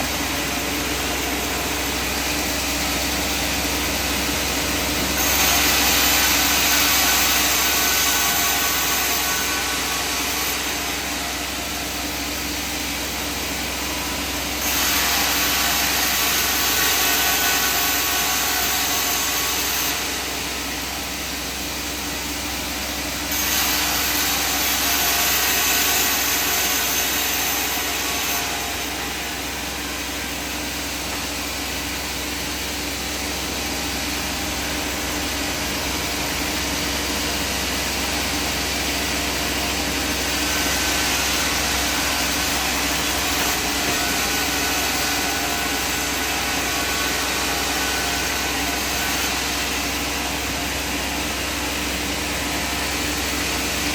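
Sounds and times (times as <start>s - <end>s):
saw cutting wood: 0.0s - 53.9s.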